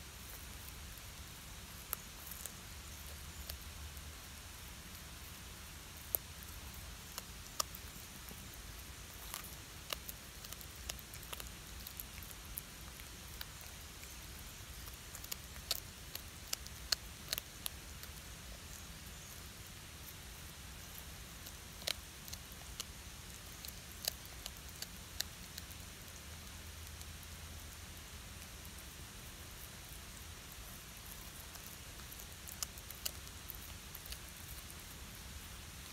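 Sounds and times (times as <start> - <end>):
cat crunching fish: 0.2 - 27.2, 29.6 - 35.9.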